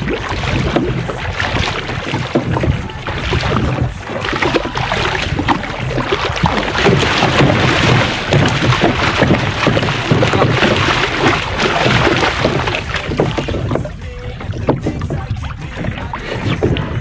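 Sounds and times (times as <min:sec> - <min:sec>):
boat motor humming: 0:00.0 - 0:17.0
water splashing against hull: 0:00.0 - 0:17.0
wind buffeting microphone: 0:00.0 - 0:17.0.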